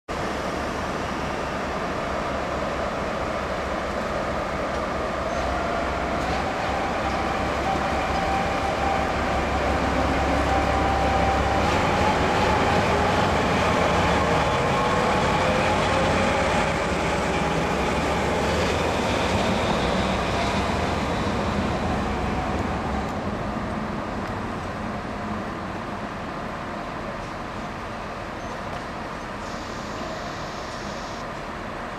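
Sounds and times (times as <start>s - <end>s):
diesel locomotive passing: 0.1s - 31.9s.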